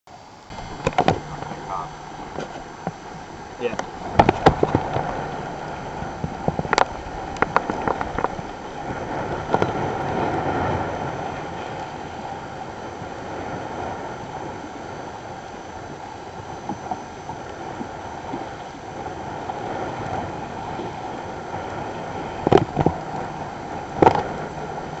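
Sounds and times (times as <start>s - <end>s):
water rushing past boat: 0.1s - 25.0s
wind on microphone: 0.5s - 25.0s.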